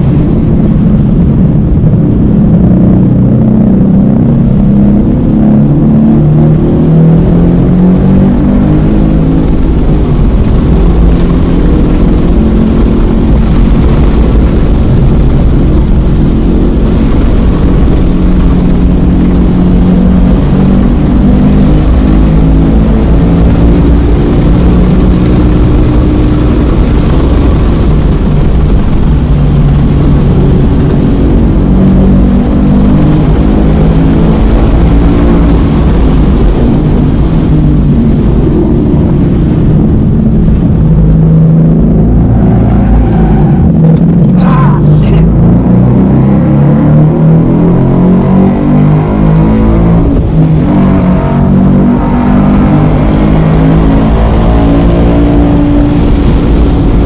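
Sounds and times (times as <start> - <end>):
car engine revving: 0.0 - 57.0
tyre and wind noise: 0.0 - 57.0.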